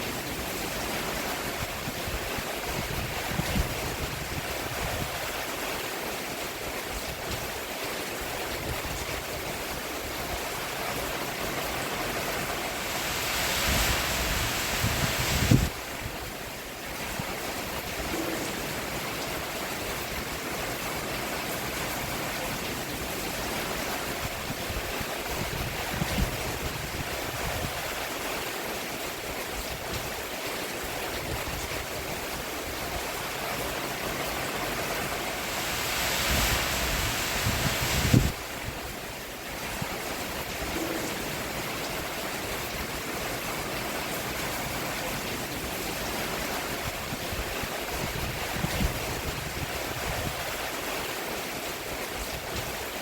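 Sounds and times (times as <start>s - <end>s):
rain on a roof: 0.0s - 53.0s.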